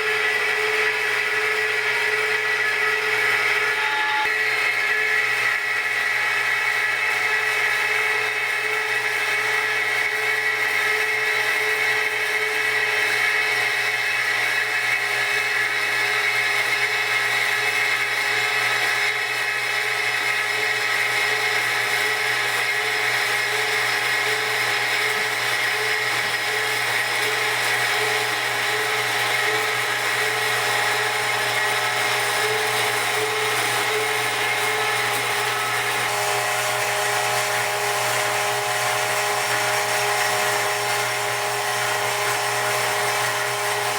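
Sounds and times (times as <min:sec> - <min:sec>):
band saw cutting metal pipe: 0:00.0 - 0:43.9.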